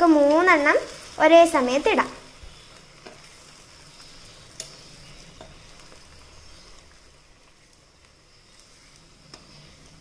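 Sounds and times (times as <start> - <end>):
oil sizzling deep-frying: 0.0 - 10.0.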